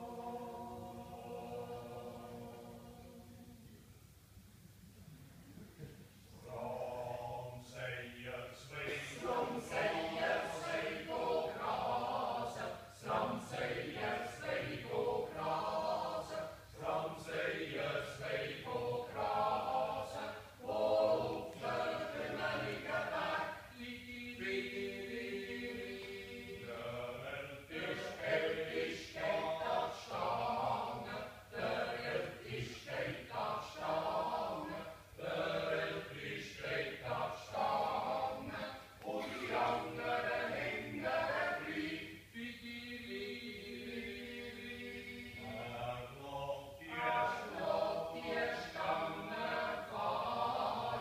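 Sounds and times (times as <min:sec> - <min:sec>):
choir singing a cappella: 0:00.0 - 0:03.8, 0:06.2 - 0:51.0.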